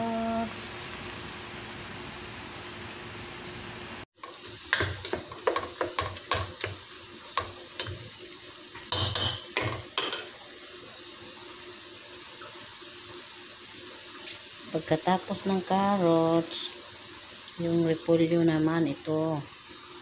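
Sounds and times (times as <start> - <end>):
frying sizzle: 0.0 - 20.0.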